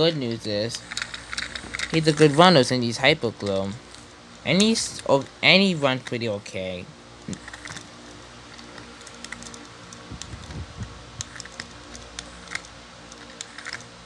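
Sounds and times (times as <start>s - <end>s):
toy train motor whirring: 0.0s - 6.2s, 7.2s - 14.0s
gear clicks: 0.0s - 6.4s, 7.2s - 14.0s.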